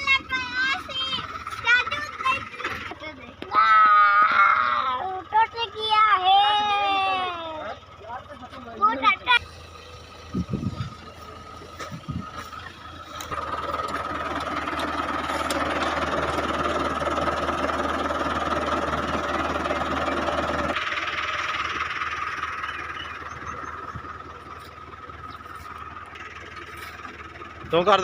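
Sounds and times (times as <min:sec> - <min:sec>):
tractor diesel engine revving: 0:00.0 - 0:28.0.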